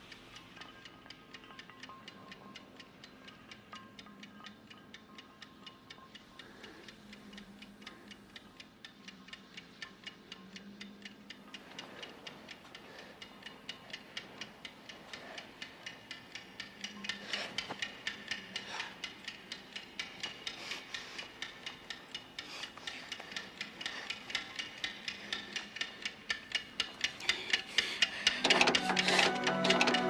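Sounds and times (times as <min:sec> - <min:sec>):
clockwork ticking: 0:00.0 - 0:30.0.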